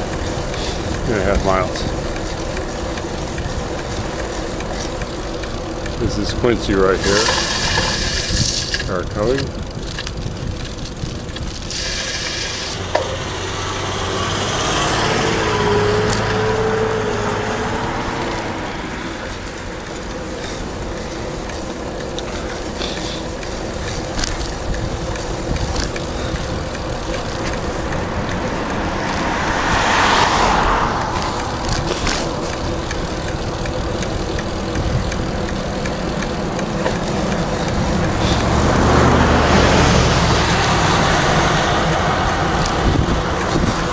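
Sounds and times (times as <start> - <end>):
cars passing: 0.0 - 43.9
road noise: 0.0 - 43.9.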